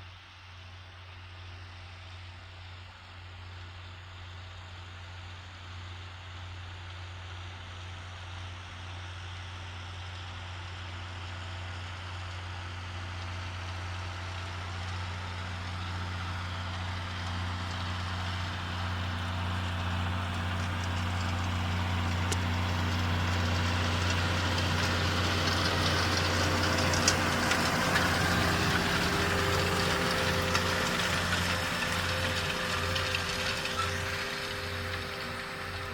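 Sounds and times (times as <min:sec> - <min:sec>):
tractor diesel engine running: 0:03.1 - 0:35.9.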